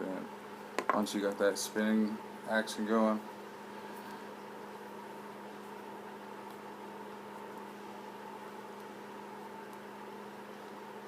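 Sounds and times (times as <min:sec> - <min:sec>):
steady hum of fixed tones: 0:00.0 - 0:11.0.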